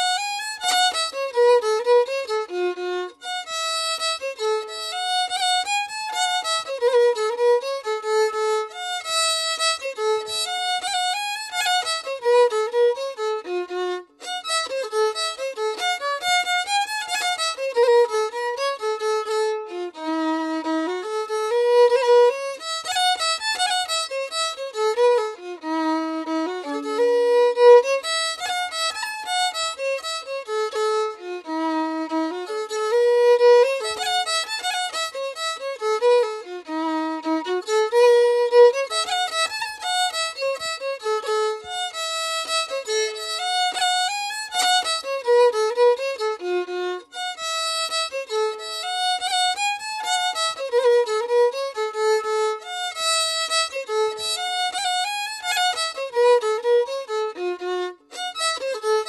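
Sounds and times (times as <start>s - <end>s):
violin melody: 0.0s - 59.0s.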